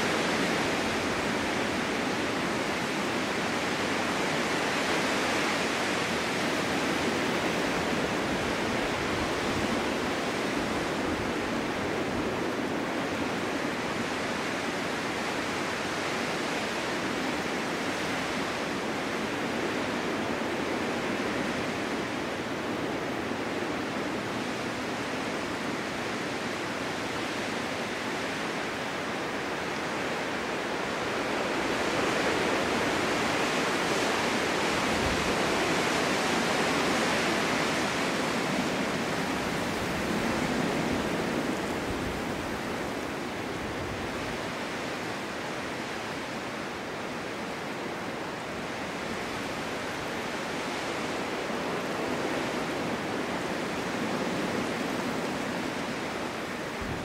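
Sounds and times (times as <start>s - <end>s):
wind rushing through forest: 0.0s - 57.0s.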